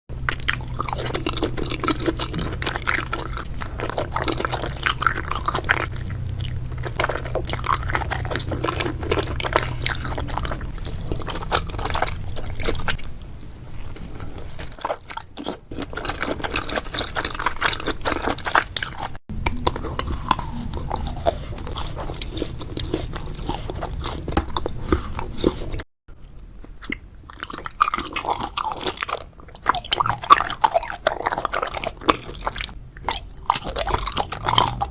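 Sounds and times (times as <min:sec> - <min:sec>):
chewing and crunching food: 0:00.1 - 0:34.9.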